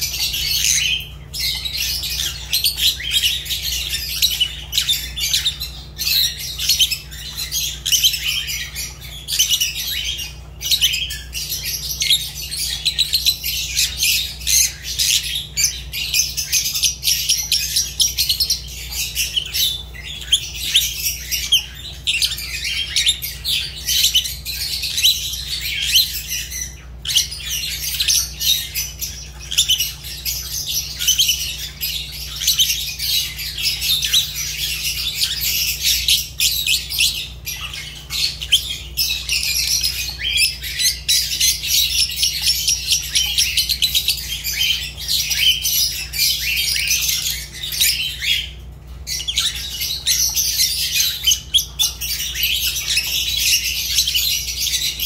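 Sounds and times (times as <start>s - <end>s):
lovebirds chattering: 0.0s - 55.0s.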